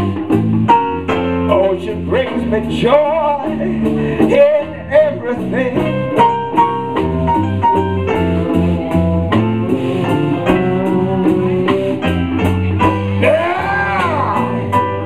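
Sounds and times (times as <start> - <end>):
bass line: 0.0 - 15.0
guitar and keyboard chords: 0.0 - 15.0
steady drum beat: 0.0 - 15.0.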